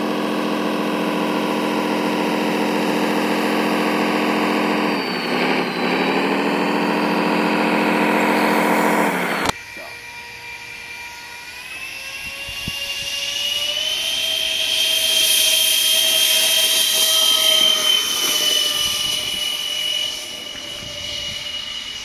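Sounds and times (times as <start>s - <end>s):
model jet engines whining: 0.0s - 22.0s.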